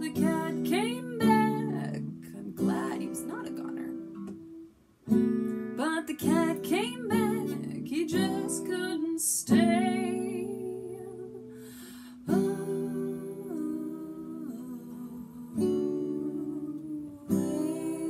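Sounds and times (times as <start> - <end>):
woman singing: 0.0 - 4.1, 5.7 - 18.0
acoustic guitar strumming: 0.0 - 18.0.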